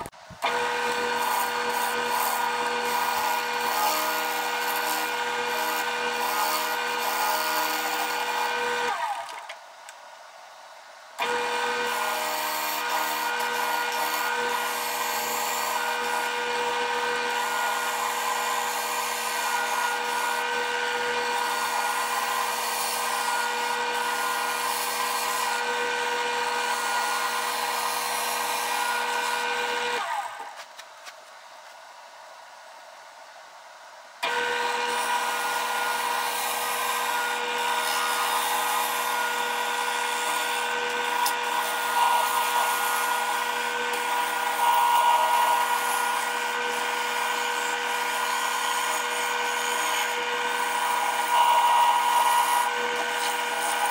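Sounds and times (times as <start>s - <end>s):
gouge scraping spinning wood: 0.0s - 9.1s, 11.2s - 30.6s, 34.3s - 53.9s
lathe motor whine: 0.0s - 9.4s, 11.2s - 30.5s, 34.2s - 53.9s.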